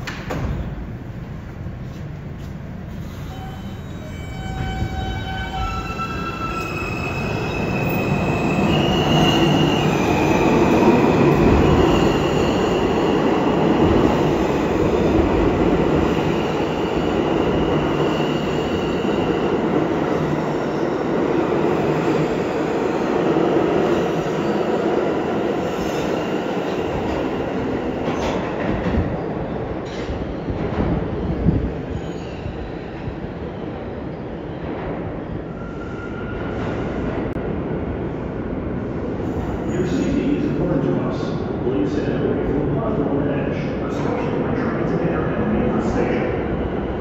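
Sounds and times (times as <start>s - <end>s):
subway train propulsion whine: 0.0s - 47.0s.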